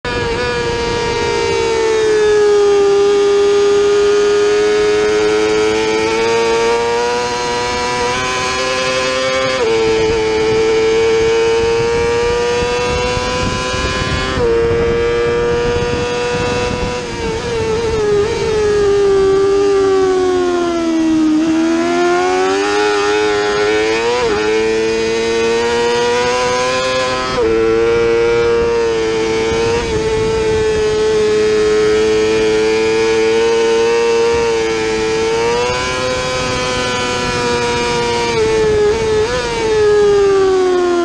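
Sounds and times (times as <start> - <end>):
wind rush: 0.0 - 40.6
motorcycle engine screaming: 0.0 - 41.0.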